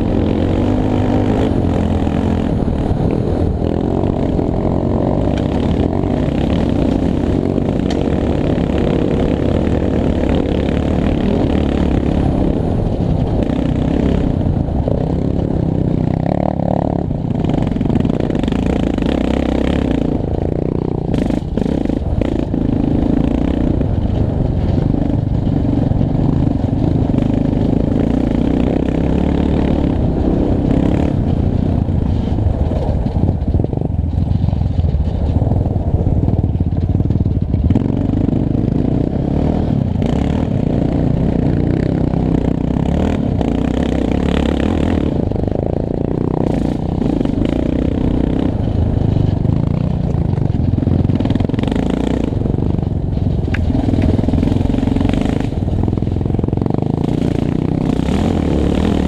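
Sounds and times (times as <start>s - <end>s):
clatter from rough ground: 0.0s - 59.0s
quad bike engine revving: 0.0s - 59.0s.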